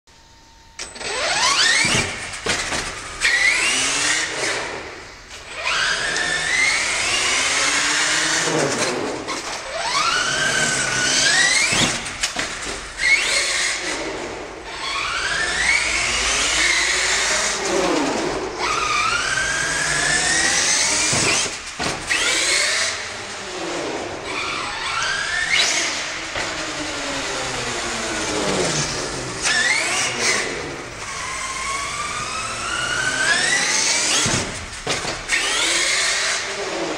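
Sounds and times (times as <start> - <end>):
model truck engine revving: 3.1 - 36.9.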